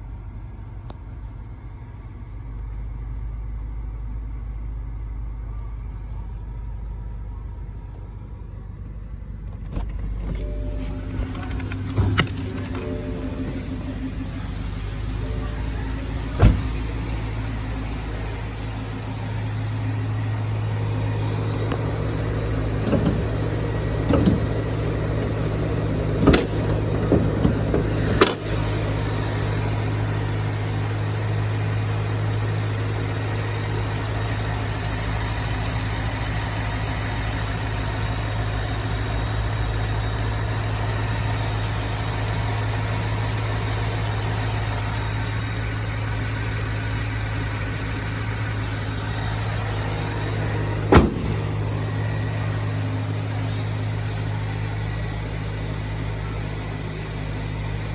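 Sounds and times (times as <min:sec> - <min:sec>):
car engine idling: 0:00.0 - 0:57.9.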